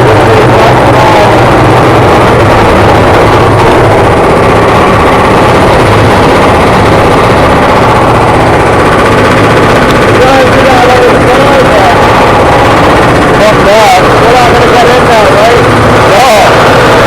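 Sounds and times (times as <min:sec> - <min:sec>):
jackhammer hammering concrete: 0:00.0 - 0:17.0
low machine hum: 0:00.0 - 0:17.0.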